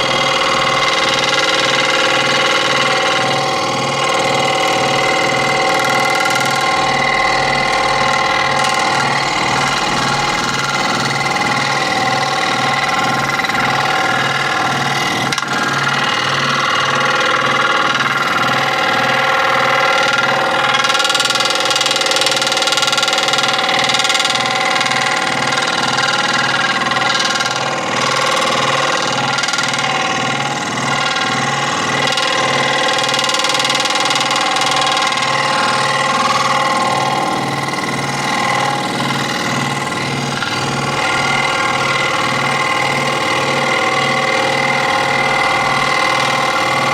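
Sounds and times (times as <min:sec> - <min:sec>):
electric scroll saw running: 0:00.0 - 0:46.9.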